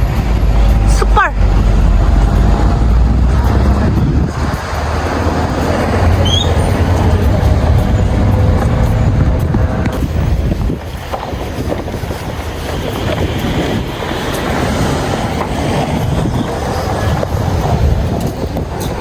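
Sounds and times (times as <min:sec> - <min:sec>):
monorail train rumbling: 0:00.0 - 0:19.0
wind noise on microphone: 0:00.0 - 0:19.0.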